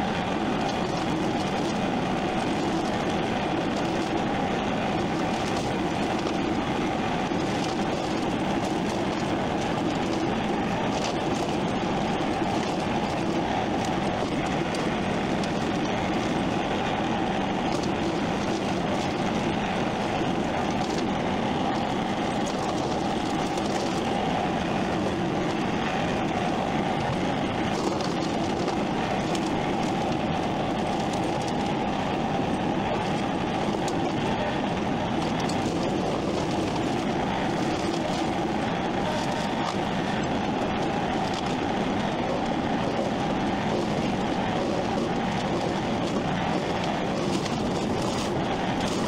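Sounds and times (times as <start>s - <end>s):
machine mechanical rumble: 0.0s - 49.0s.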